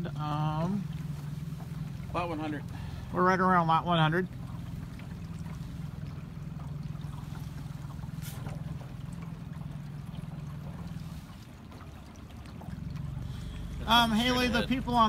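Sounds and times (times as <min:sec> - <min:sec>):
boat motor humming: 0:00.0 - 0:15.0
water moving around boat: 0:00.0 - 0:15.0.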